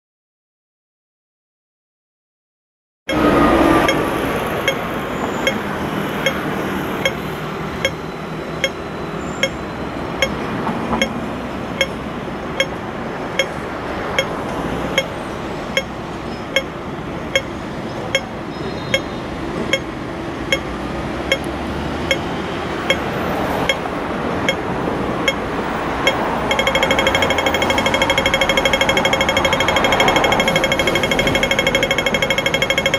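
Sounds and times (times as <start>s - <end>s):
crossing signal ticking: 3.1s - 32.9s
street traffic noise: 3.1s - 32.9s.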